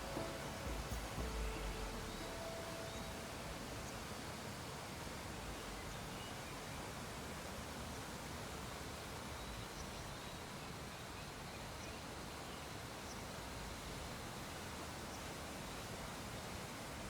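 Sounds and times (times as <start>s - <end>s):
low background hiss: 0.0s - 17.0s.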